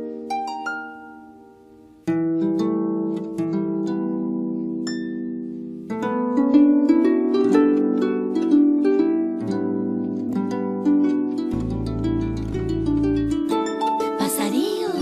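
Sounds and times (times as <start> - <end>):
harp playing a melody: 0.0 - 15.0.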